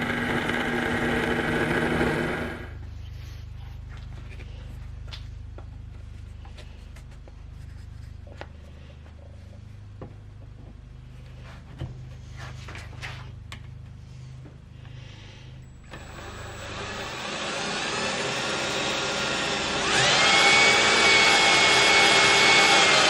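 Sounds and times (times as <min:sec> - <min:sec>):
steady low hum: 0:00.0 - 0:19.6.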